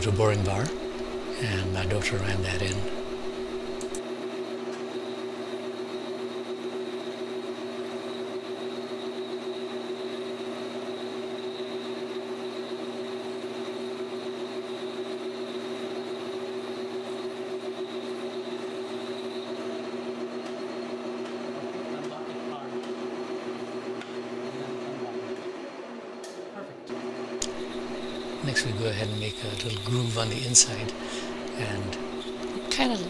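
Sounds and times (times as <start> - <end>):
metal lathe cutting: 0.0 - 21.8, 27.4 - 33.0
thin high whine: 0.0 - 22.7, 27.4 - 33.0.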